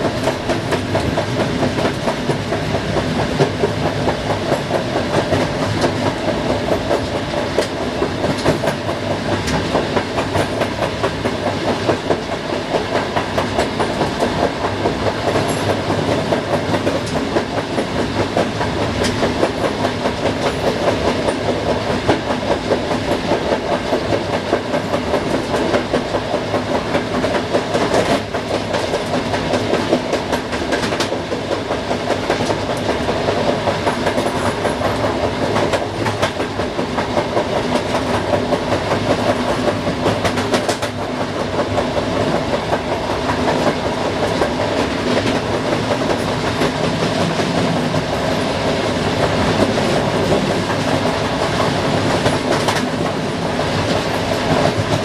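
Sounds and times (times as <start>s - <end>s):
train rolling noise: 0.0s - 55.0s
train wheels clattering: 0.0s - 55.0s.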